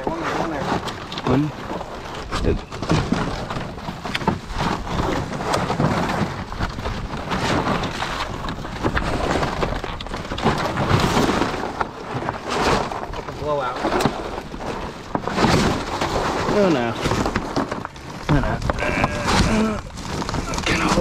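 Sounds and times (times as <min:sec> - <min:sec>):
plastic planks scraping and knocking: 0:00.0 - 0:21.0.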